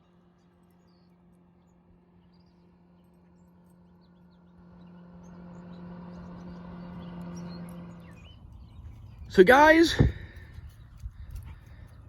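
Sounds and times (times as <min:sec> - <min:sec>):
small birds chirping: 0:00.0 - 0:12.0
steady motor hum: 0:00.0 - 0:12.0.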